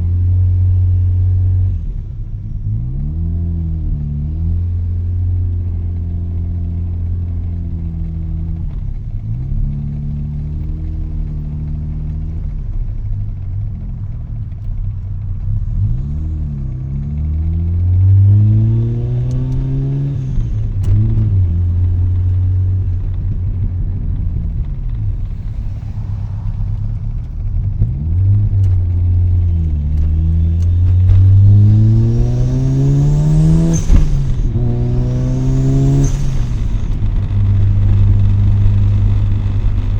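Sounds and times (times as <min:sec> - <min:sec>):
high engine whine: 0:00.0 - 0:39.9
rotary car engine accelerating: 0:00.0 - 0:39.9.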